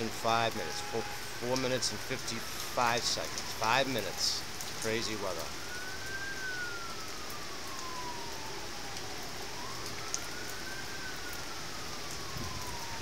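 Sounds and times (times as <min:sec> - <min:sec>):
emergency siren wailing: 0:00.0 - 0:13.0
heavy rain hiss: 0:00.0 - 0:13.0.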